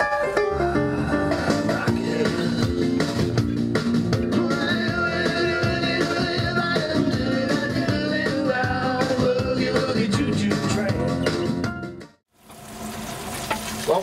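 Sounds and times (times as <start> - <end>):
guitar: 0.0 - 12.2.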